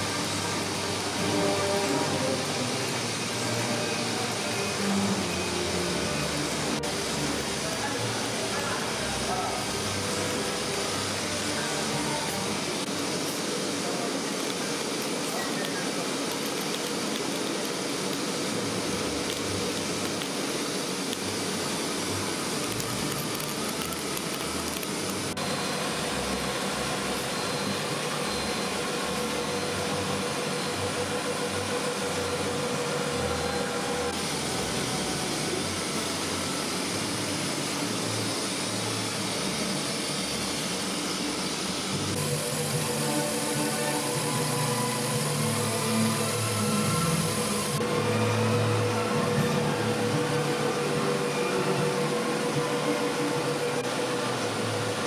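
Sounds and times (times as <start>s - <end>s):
conveyor machinery running: 0.0s - 55.0s.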